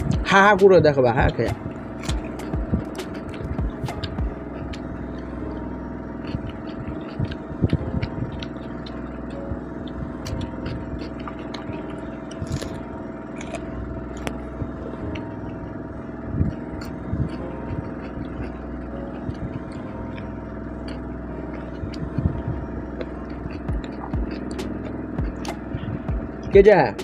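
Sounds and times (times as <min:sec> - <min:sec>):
steady mechanical hum: 0:00.0 - 0:27.0
chewing raw vegetables: 0:01.3 - 0:26.6.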